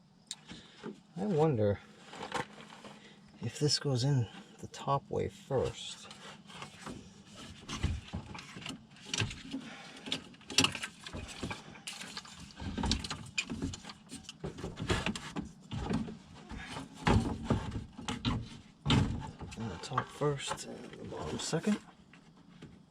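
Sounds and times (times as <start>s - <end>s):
radiator parts knocking and scraping: 4.3s - 22.9s.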